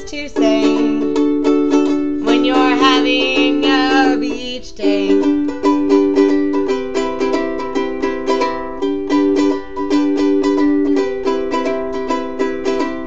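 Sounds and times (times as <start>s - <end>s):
ukulele strummed: 0.0s - 13.0s.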